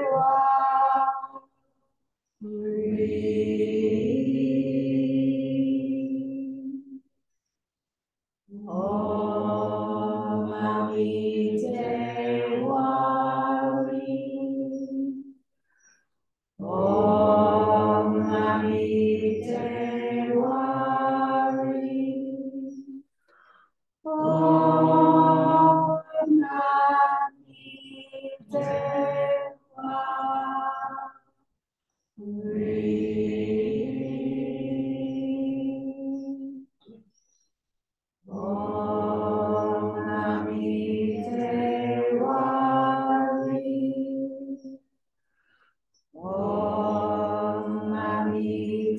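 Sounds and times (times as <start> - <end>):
voices chanting in unison: 0.0 - 1.4, 2.4 - 7.0, 8.5 - 15.4, 16.6 - 23.0, 24.0 - 31.2, 32.2 - 37.0, 38.2 - 44.8, 46.2 - 48.9.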